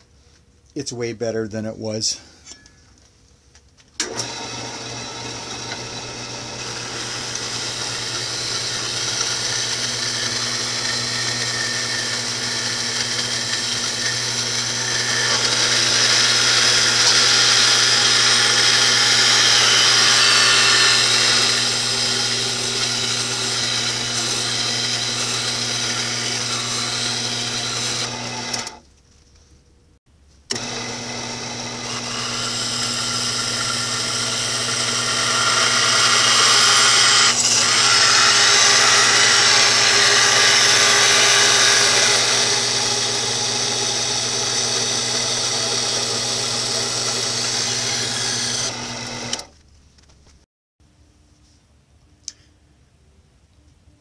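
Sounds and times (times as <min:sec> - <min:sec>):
bandsaw cutting steel tubing: 0:04.0 - 0:28.8, 0:30.5 - 0:49.5
electric motor humming: 0:04.0 - 0:28.8, 0:30.5 - 0:49.6.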